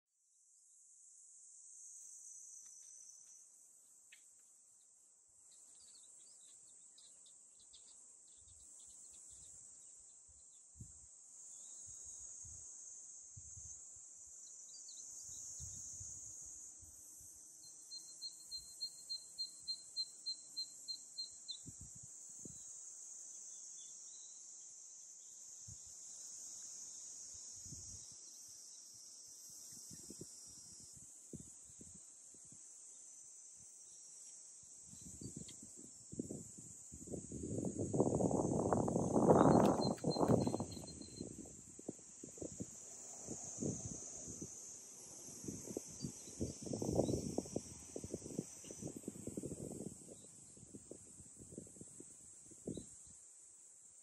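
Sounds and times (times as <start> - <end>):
cicadas droning: 0.4 - 54.0.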